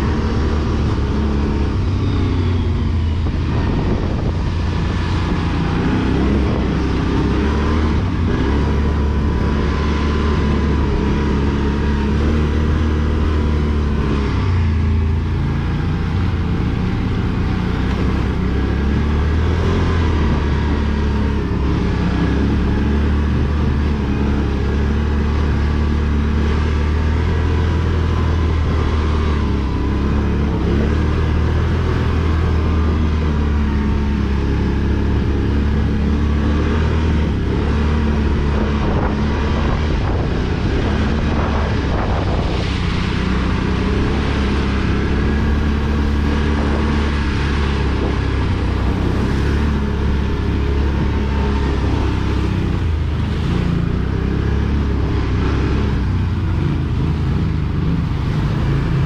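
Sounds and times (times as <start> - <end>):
atv engine rumbling: 0.0 - 59.0.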